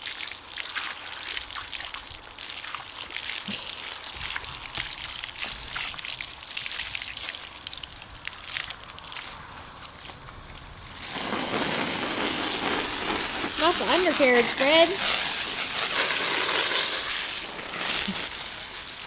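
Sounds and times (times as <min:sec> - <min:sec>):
water spraying from hose nozzle: 0:00.0 - 0:19.0.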